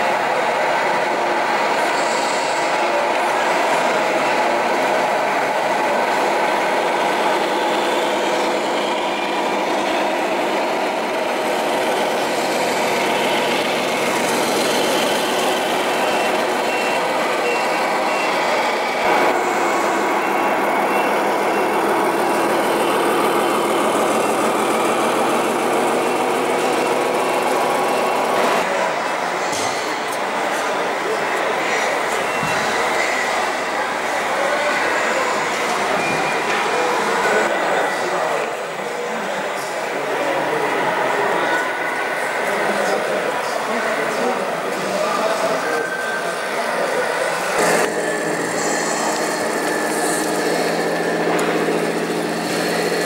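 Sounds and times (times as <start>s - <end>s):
electronic diesel engine sound: 0.0s - 53.0s
reversing beeper: 2.0s - 28.8s, 31.0s - 38.4s, 40.6s - 53.0s.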